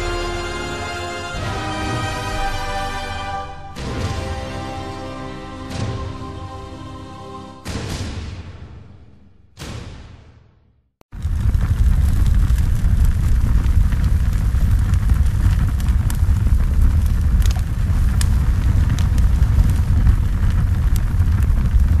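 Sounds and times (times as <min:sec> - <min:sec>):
large fire burning: 0:00.0 - 0:06.7, 0:11.1 - 0:22.0.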